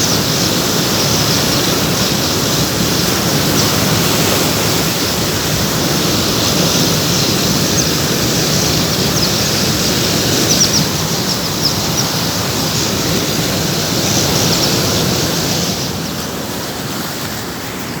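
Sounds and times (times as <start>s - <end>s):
loud rushing noise: 0.0s - 18.0s.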